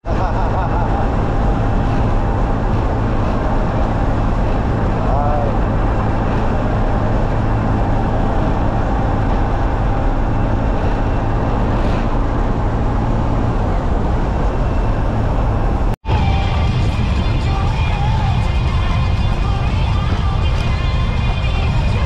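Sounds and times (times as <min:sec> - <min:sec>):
motorcycle engine drone: 0:00.0 - 0:22.0
wind rush over microphone: 0:00.1 - 0:22.0.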